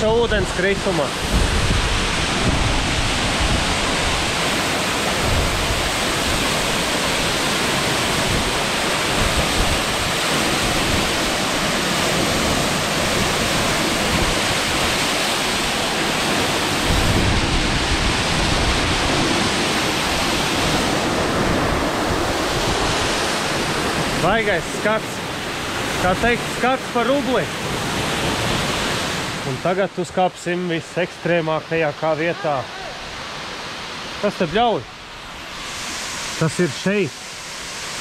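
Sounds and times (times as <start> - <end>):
waterfall rushing onto rocks: 0.0 - 29.9, 35.4 - 38.0.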